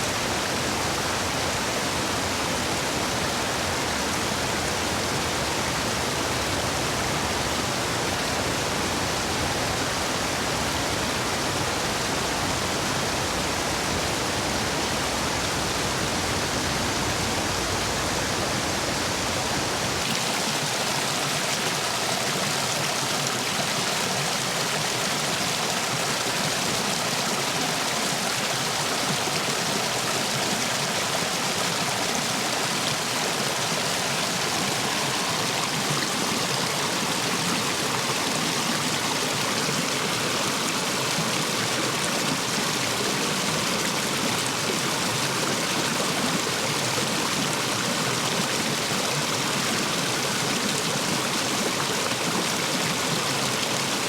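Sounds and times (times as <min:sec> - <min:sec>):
stream water rushing over stones: 0:00.0 - 0:54.0.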